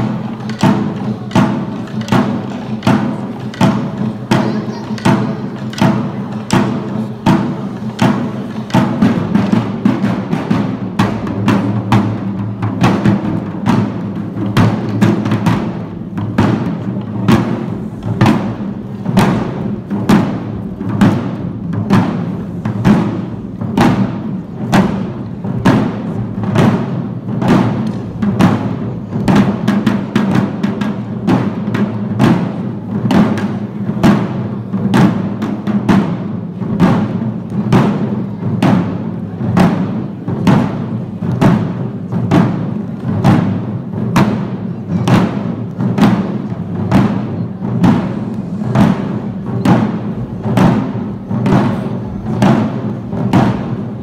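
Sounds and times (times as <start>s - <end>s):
drums beaten in brisk rhythm: 0.0s - 54.0s.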